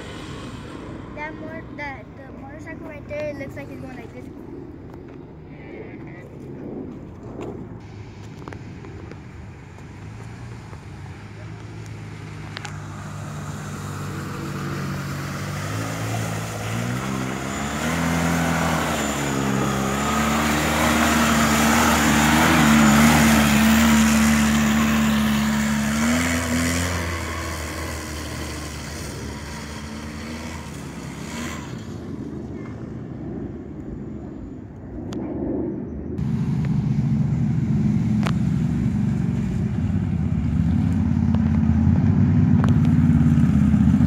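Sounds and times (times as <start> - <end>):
quad bike engine passing by: 0.0 - 4.8, 8.4 - 34.7, 36.2 - 44.0.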